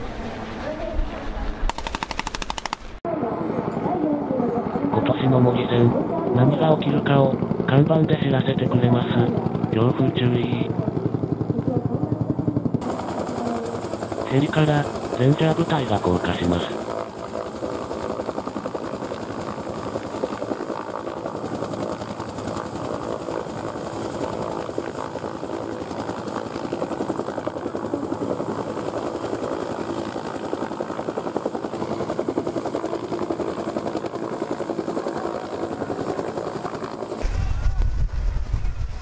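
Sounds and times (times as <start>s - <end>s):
helicopter rotor beating: 0.0s - 39.0s.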